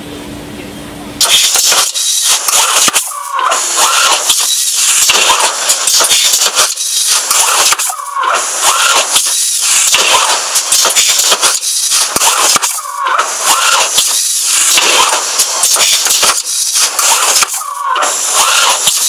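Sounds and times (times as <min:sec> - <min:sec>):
machine hissing: 0:01.2 - 0:19.0.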